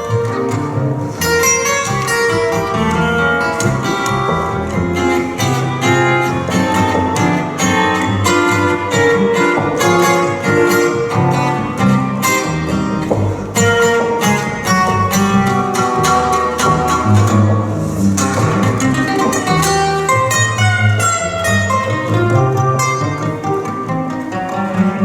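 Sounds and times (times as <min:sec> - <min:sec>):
bowed strings: 0:00.0 - 0:25.0
guitar playing quick notes: 0:00.0 - 0:25.0
walking bass line: 0:00.0 - 0:25.0.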